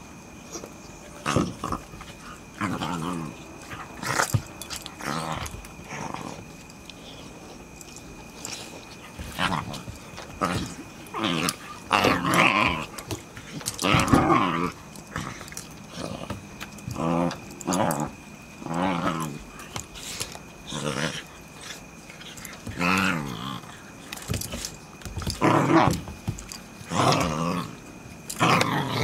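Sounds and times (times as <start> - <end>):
puppies play growling: 0.5 - 29.0.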